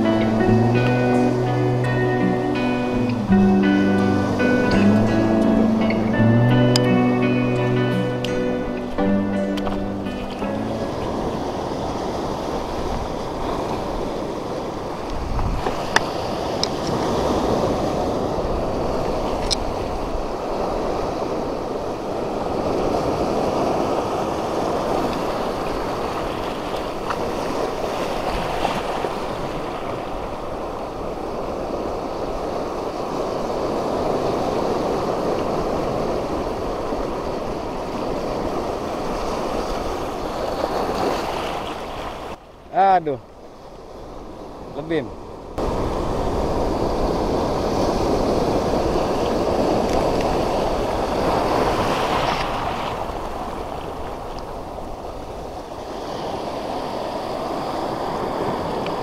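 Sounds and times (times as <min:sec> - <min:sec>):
surf washing over rocks: 0:00.0 - 0:59.0.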